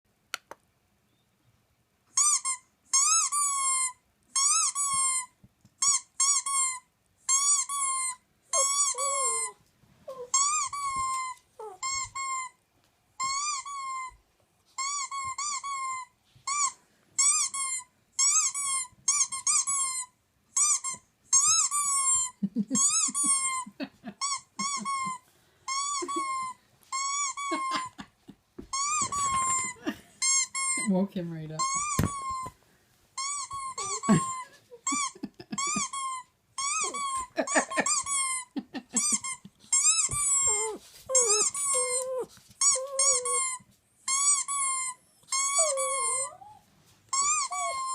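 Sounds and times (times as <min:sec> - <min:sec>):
squeak toy squeaking: 0:02.1 - 0:12.6, 0:13.2 - 0:14.2, 0:14.8 - 0:28.0, 0:28.6 - 0:32.6, 0:33.2 - 0:47.9.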